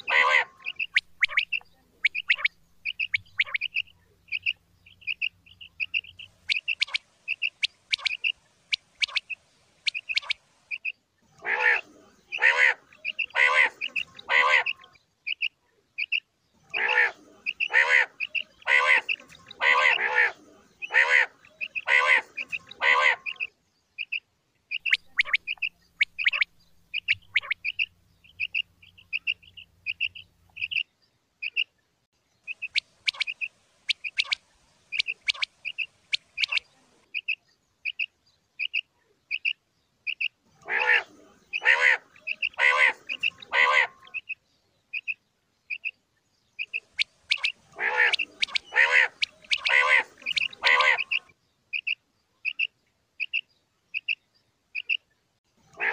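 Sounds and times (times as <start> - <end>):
quail calling: 0.0 - 30.8, 32.5 - 46.0, 46.6 - 53.4, 55.7 - 55.9.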